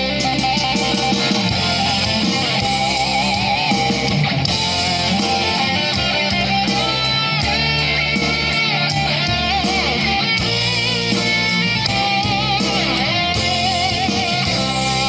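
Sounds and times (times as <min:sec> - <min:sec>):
instrumental rock guitar music: 0:00.0 - 0:15.0.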